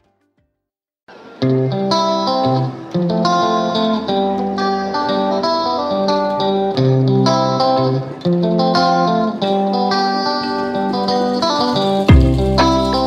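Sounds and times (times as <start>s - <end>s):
plucked guitar tune: 0.0s - 0.5s, 1.1s - 13.0s.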